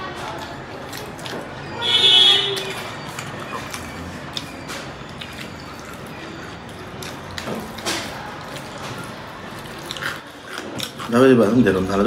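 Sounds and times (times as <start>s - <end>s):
chewing and lip smacks: 0.2s - 1.7s, 2.6s - 11.2s.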